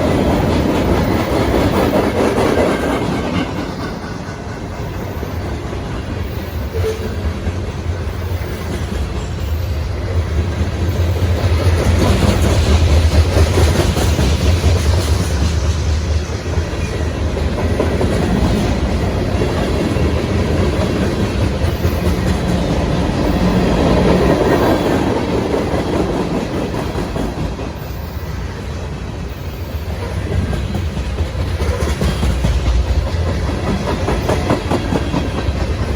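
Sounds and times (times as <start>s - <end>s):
freight train wheels clattering on rails: 0.0s - 35.9s.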